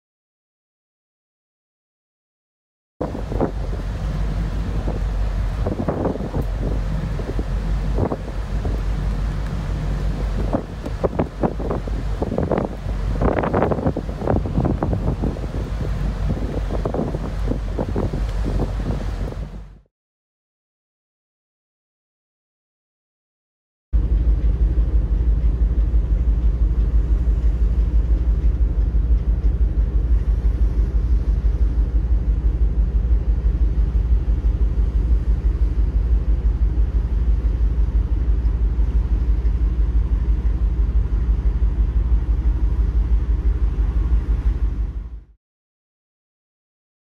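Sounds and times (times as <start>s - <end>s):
ship engine low rumble: 3.0s - 19.9s, 24.0s - 45.4s.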